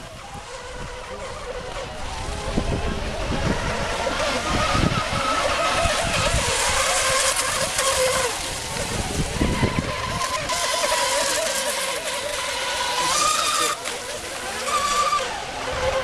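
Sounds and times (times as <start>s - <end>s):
model boat motors whining: 0.0s - 16.0s
steady water hiss: 0.0s - 16.0s.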